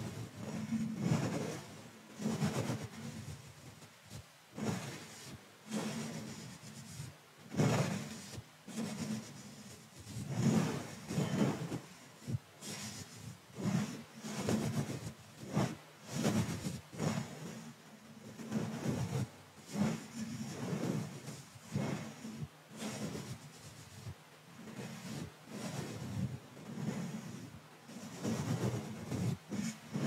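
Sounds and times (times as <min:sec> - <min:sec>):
brush swishing over microphone: 0:00.0 - 0:30.0.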